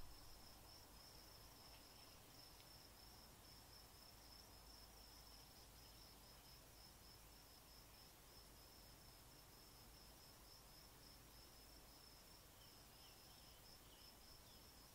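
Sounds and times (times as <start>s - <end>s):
low hiss: 0.0s - 14.9s.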